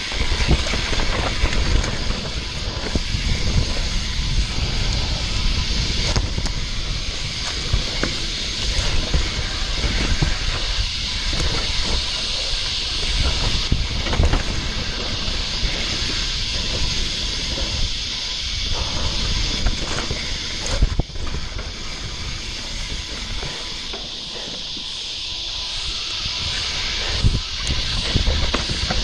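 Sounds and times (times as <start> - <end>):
bike clicks and rattles: 0.0 - 29.0
tyres hissing on dirt: 0.0 - 29.0
wind on microphone: 0.0 - 29.0.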